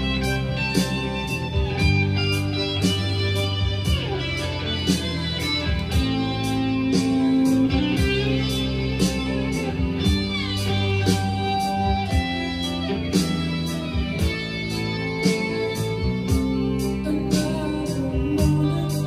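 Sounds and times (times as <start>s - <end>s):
guitar-led music with drums: 0.0s - 19.0s.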